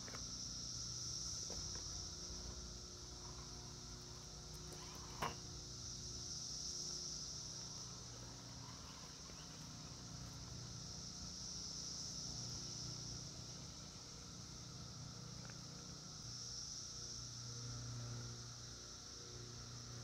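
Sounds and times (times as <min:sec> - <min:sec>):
insect chorus droning: 0:00.0 - 0:20.0.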